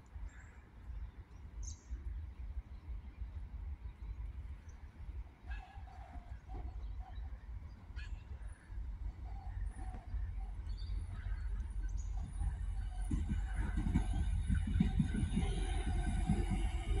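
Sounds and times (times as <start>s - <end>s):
diesel railcar rumble: 0.1s - 17.0s.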